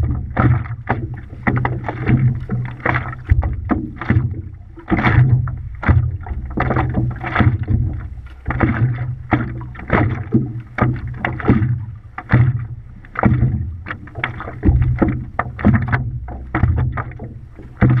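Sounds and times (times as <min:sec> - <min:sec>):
water splashing against paddleboard: 0:00.0 - 0:18.0.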